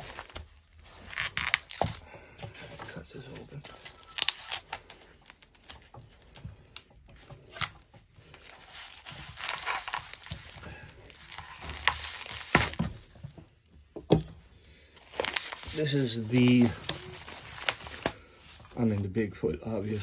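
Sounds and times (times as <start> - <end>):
knife cutting plastic: 0.0 - 13.4, 15.1 - 18.9
plastic wrap crinkling and tearing: 0.0 - 13.9, 14.7 - 20.0.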